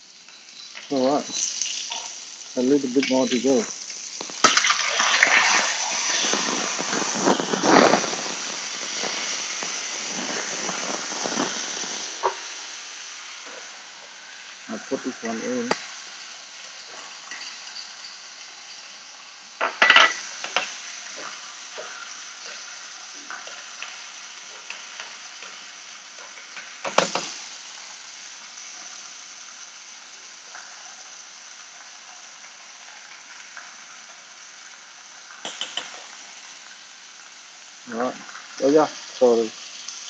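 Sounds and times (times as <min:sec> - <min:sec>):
frying sizzle in pan: 0:00.0 - 0:40.0.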